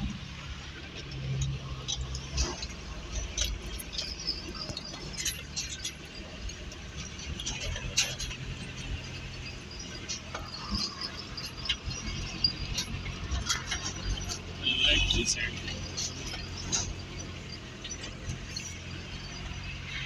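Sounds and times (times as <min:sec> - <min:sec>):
light rattles and clicks in cab: 0:00.0 - 0:20.0
truck engine low hum: 0:00.0 - 0:20.0.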